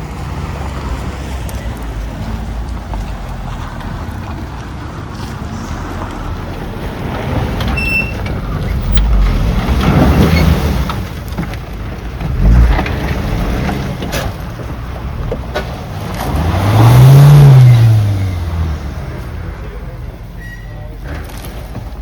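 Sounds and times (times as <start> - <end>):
off-road vehicle engine: 0.0 - 22.0.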